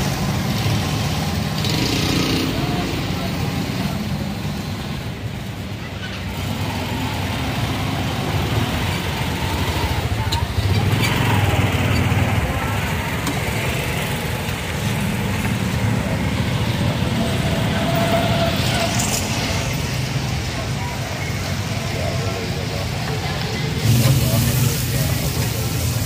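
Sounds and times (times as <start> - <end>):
street noise: 0.0 - 26.0
vehicle engine rumbling: 0.0 - 26.0.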